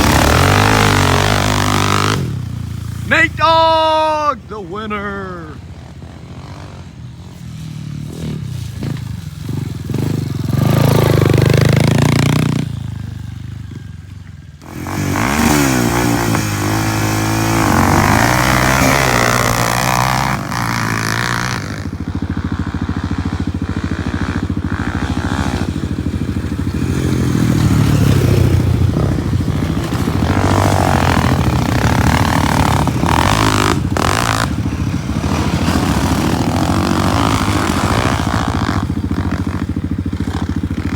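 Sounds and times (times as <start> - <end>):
off-road engines revving: 0.0 - 13.0, 14.6 - 40.9.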